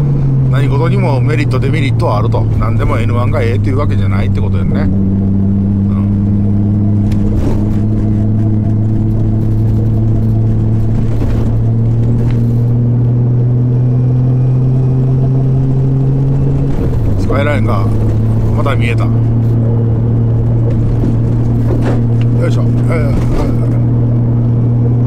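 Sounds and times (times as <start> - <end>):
car engine pulling from inside cabin: 0.0 - 25.0.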